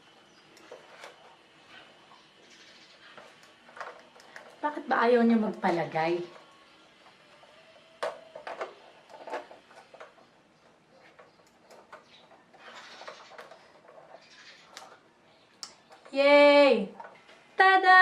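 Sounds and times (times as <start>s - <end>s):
plastic parts scraping: 0.6s - 15.2s.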